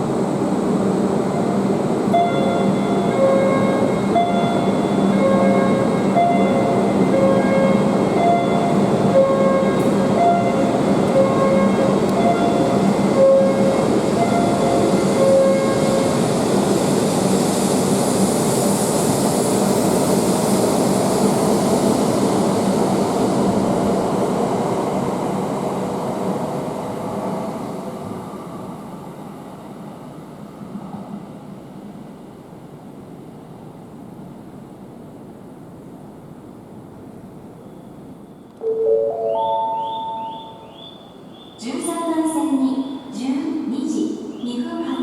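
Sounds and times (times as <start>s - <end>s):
train rushing past: 0.0s - 31.9s, 37.4s - 45.0s.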